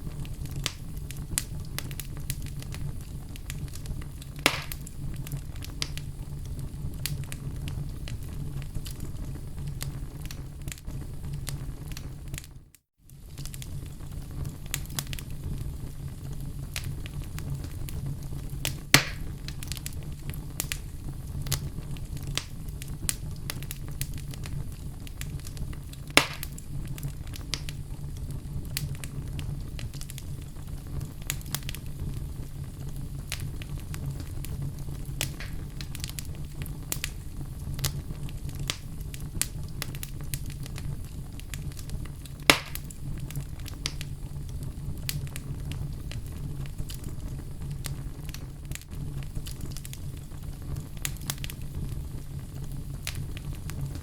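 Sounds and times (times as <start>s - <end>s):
burning wood popping: 0.0s - 12.5s, 13.1s - 54.0s
log fire crackling: 0.0s - 54.0s
low rumble of flames: 0.0s - 54.0s.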